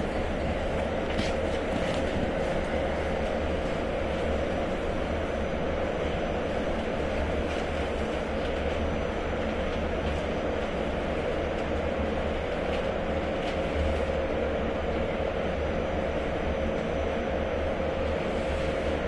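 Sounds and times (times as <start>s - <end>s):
steady whine: 0.0s - 19.0s
train rumble: 0.0s - 19.0s.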